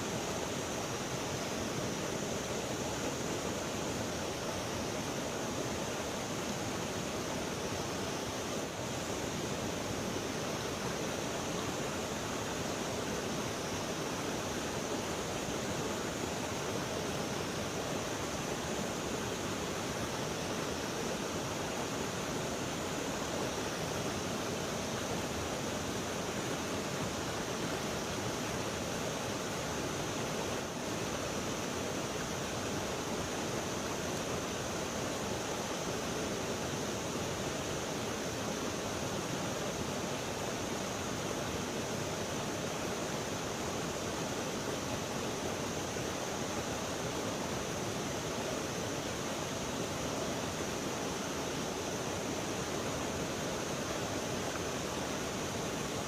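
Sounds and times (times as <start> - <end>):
high hiss: 0.0 - 56.0
river water rushing: 0.0 - 56.0.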